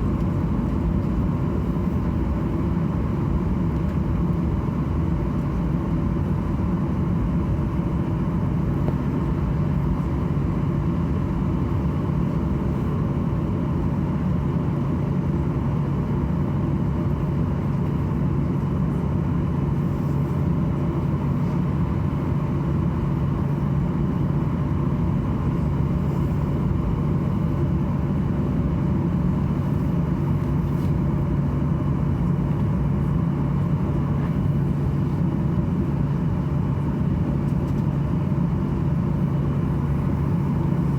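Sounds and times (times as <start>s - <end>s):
aircraft cabin air hum: 0.0s - 40.9s.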